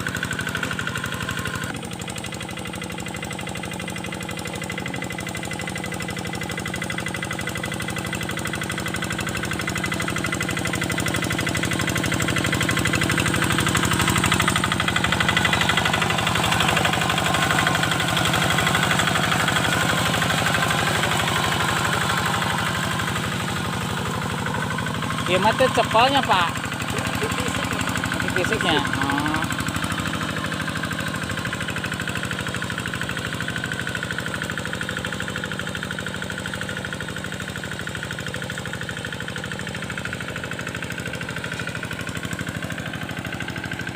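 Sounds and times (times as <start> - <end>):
diesel engine chugging: 0.0 - 43.9.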